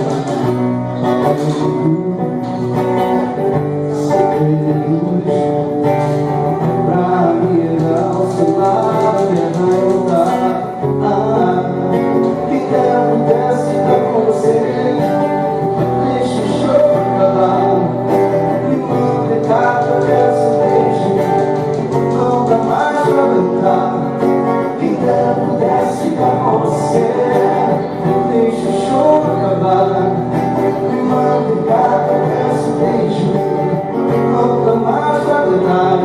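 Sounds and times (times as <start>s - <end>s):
acoustic guitar accompaniment: 0.0s - 36.0s
man singing: 0.0s - 36.0s.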